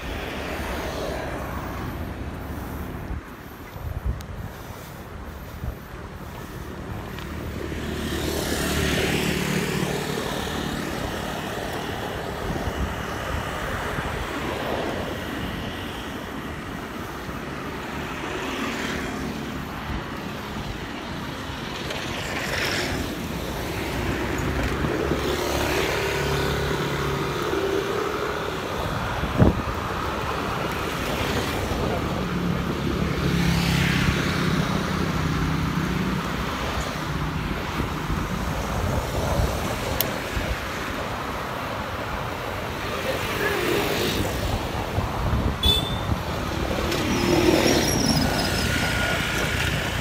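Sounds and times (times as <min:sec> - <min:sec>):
vehicles passing on road: 0:00.0 - 0:50.0
wind on microphone: 0:00.0 - 0:50.0.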